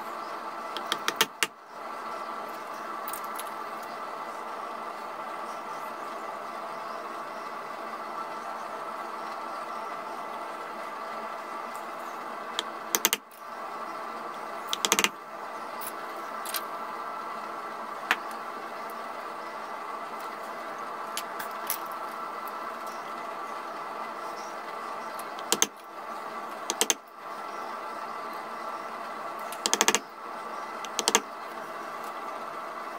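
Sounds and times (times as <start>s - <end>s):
steady background hum: 0.0s - 32.9s.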